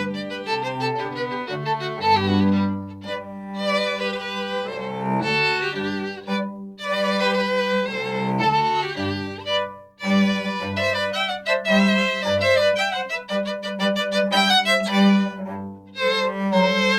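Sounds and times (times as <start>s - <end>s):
sustained cello bass line: 0.0s - 16.9s
violins with vibrato: 0.0s - 16.9s.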